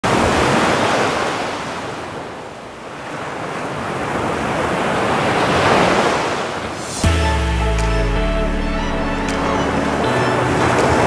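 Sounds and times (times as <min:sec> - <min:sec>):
surf waves washing in: 0:00.0 - 0:11.0.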